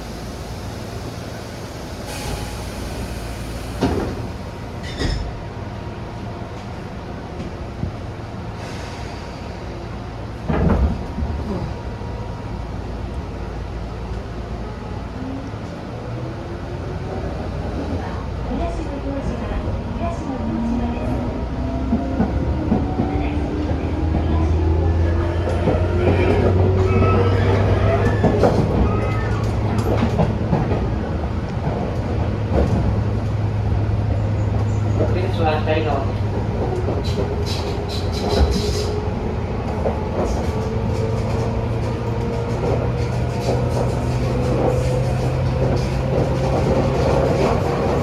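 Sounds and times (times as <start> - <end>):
train car low rumble: 0.0 - 48.0.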